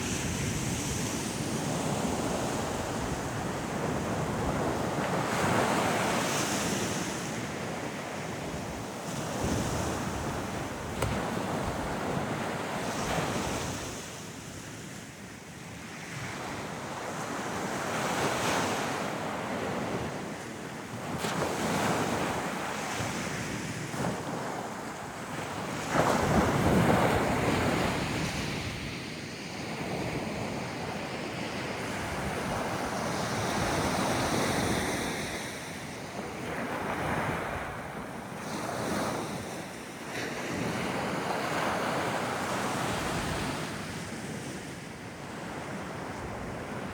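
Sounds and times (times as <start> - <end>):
waves breaking on beach: 0.0 - 46.9.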